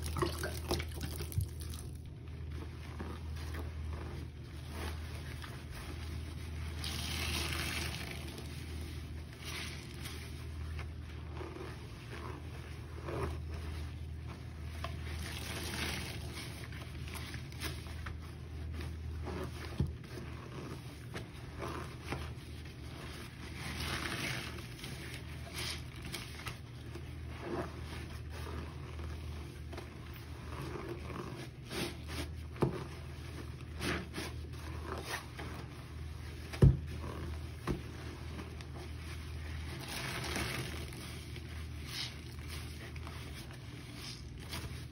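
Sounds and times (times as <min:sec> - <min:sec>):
sponge squelching in soapy water: 0:00.0 - 0:44.9
wet cloth wrung: 0:00.0 - 0:44.9.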